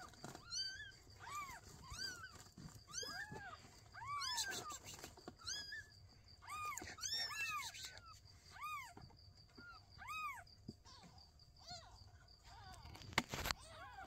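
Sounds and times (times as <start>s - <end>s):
newborn kittens mewing: 0.0s - 14.0s.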